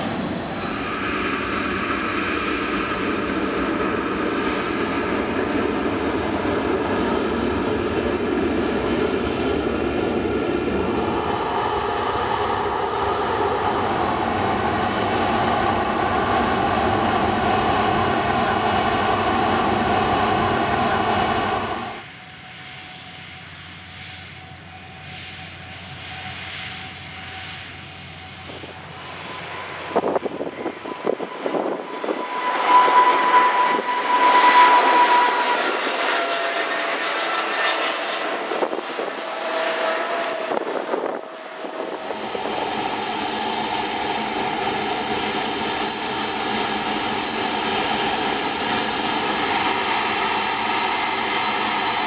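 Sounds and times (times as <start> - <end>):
jet engine roar: 0.0 - 52.0
jet engines whining: 0.0 - 52.0.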